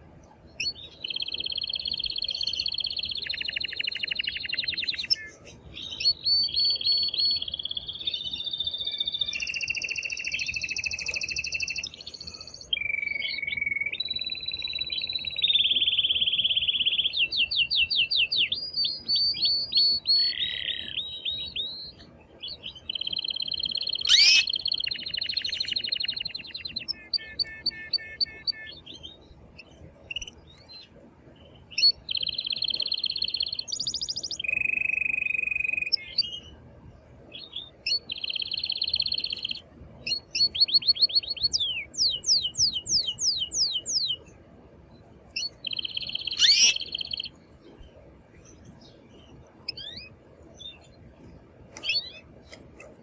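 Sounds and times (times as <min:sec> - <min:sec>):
canary singing: 0:00.6 - 0:29.3, 0:30.0 - 0:30.8, 0:31.6 - 0:36.6, 0:37.3 - 0:44.2, 0:45.4 - 0:47.4, 0:49.6 - 0:50.8, 0:51.8 - 0:52.3.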